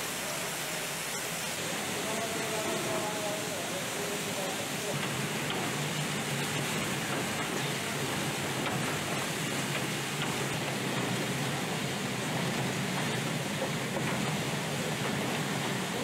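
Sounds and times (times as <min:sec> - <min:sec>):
production line machinery running: 0:00.0 - 0:16.0.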